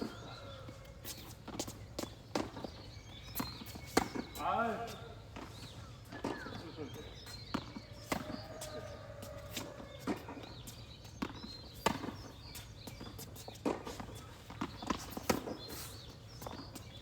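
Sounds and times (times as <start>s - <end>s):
tennis balls bouncing on court: 1.4s - 17.0s
tennis balls struck by rackets: 1.5s - 6.8s, 7.5s - 10.5s, 11.2s - 16.8s.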